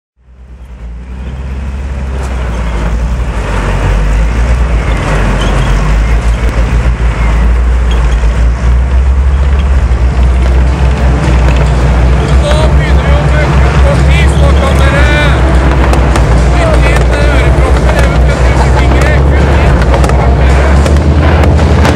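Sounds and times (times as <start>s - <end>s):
tracked vehicle engine rumble: 0.2s - 21.9s
rushing roar: 0.9s - 21.9s.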